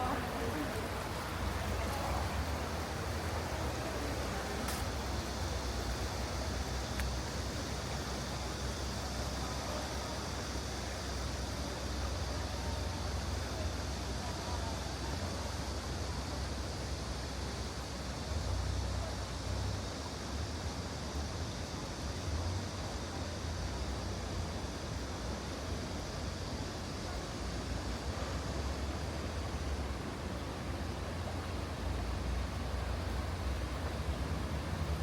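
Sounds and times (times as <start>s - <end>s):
faint voices of passers-by: 0.0s - 35.0s
low city rumble: 0.0s - 35.0s
stream water flowing: 0.0s - 35.0s.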